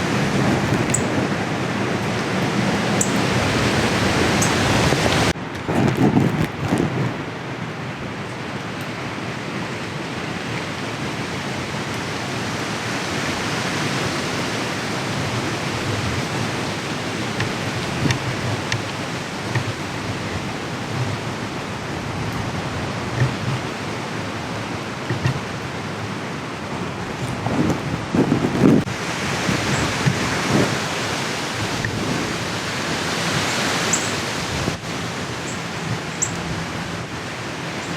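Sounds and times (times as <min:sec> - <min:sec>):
strong wind through trees: 0:00.0 - 0:37.9.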